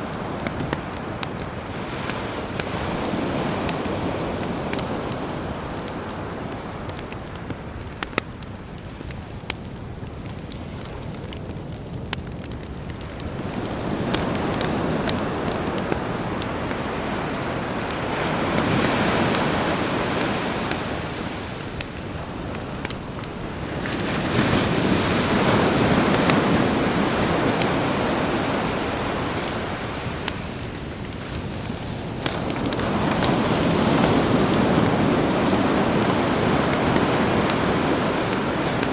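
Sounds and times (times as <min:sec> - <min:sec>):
sea waves: 0:00.0 - 0:08.1, 0:13.2 - 0:38.9
campfire crackling: 0:00.0 - 0:38.9
sharp fire pops: 0:00.0 - 0:38.9.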